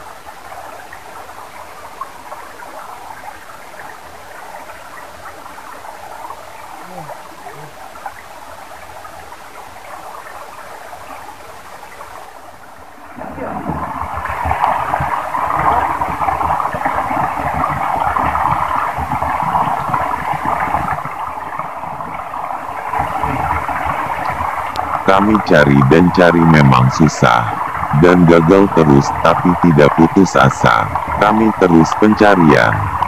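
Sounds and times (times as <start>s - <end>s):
stream water sloshing and splashing: 0.0s - 33.0s.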